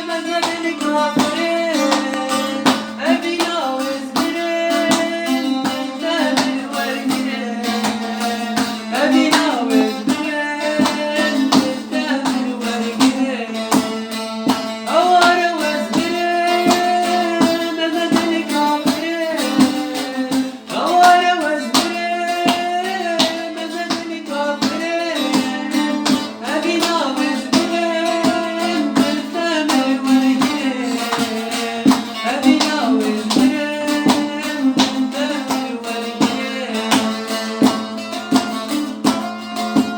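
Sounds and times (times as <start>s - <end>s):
person singing: 0.0s - 39.9s
plucked string accompaniment: 0.0s - 39.9s.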